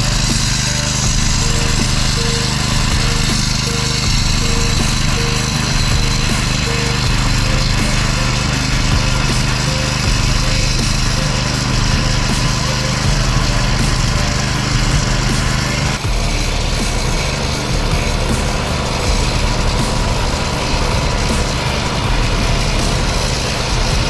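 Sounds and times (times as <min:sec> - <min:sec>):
small engine running steadily: 0:00.0 - 0:24.0.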